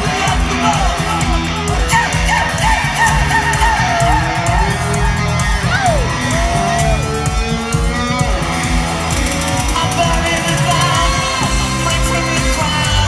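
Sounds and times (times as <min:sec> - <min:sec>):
bass and drum beat: 0:00.0 - 0:13.0
electric guitar lead lines: 0:00.0 - 0:13.0
live rock band playing: 0:00.0 - 0:13.0.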